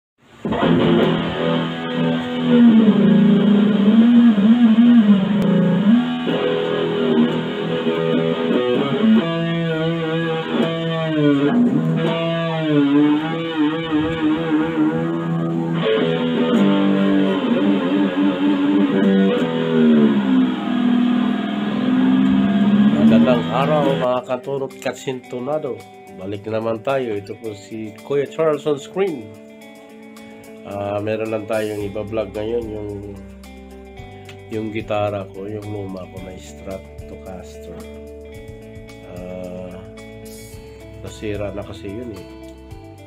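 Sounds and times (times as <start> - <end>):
electric guitar through amplifier: 0.2 - 26.8, 29.3 - 43.0.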